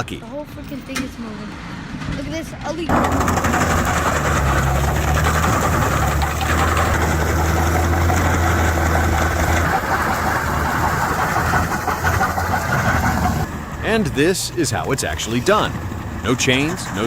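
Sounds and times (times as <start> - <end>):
vehicle engine deep drone: 1.5 - 17.0.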